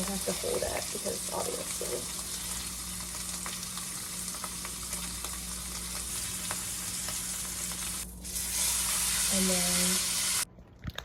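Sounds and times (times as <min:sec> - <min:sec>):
steak sizzling in a pan: 0:00.0 - 0:10.5.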